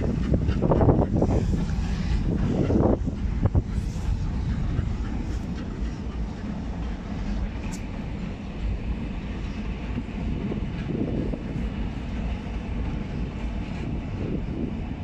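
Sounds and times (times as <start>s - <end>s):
train wagons rumbling: 0.0s - 15.0s.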